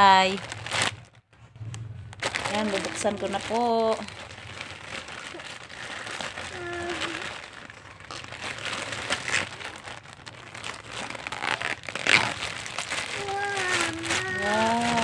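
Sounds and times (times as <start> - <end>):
plastic pouch crinkling: 0.0 - 15.0.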